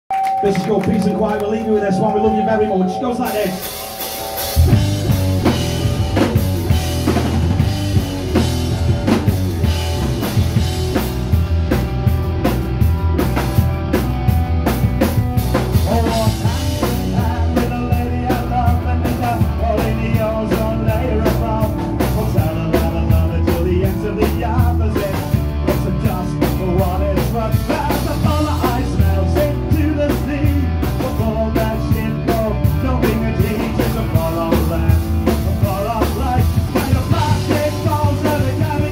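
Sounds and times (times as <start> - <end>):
drum kit: 0.1 - 38.9
electric guitars: 0.1 - 38.9
bass guitar: 0.3 - 38.9.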